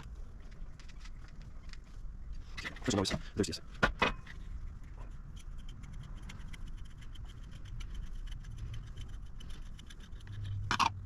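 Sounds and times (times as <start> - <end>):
grease gun clicks and crackles: 0.0 - 3.0, 4.3 - 11.0.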